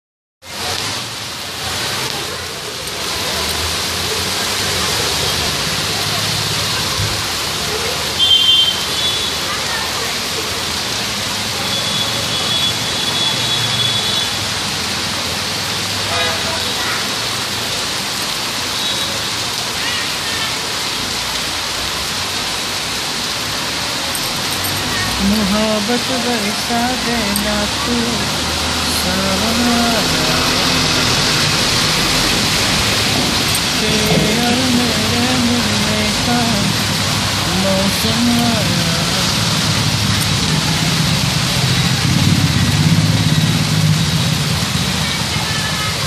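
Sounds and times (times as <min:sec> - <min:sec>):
heavy rain on pavement: 0:00.4 - 0:46.0.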